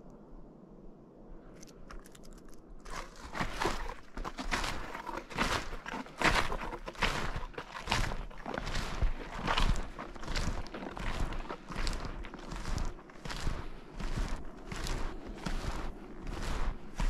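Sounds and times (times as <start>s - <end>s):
snowshoes crunching snow: 2.8s - 17.0s.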